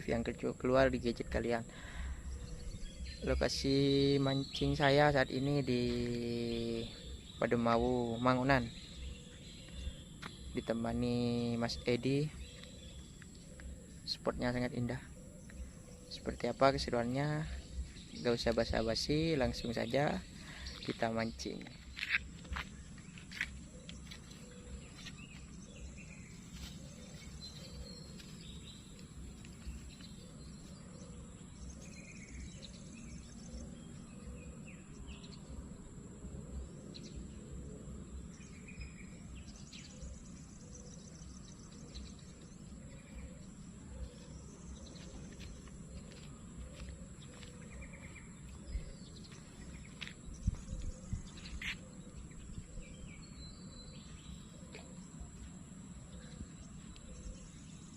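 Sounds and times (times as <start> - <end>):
bird chirps: 0.0 - 57.9
high insect drone: 0.0 - 57.9.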